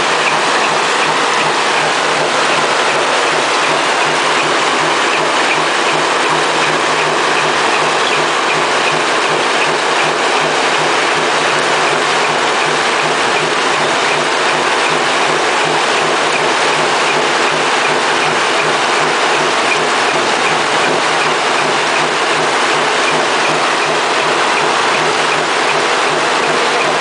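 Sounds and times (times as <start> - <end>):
washing machine clatter: 0.0 - 27.0.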